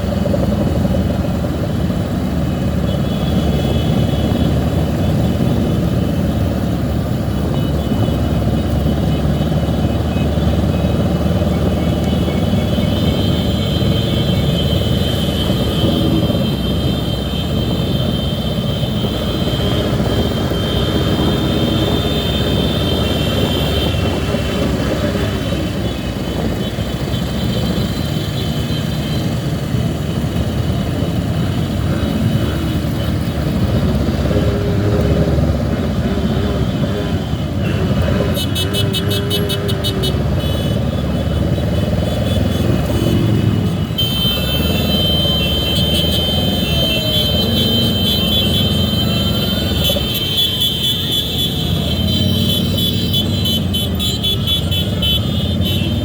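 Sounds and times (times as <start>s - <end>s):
motorcycle engine: 0.0s - 56.0s
traffic rush: 0.0s - 56.0s.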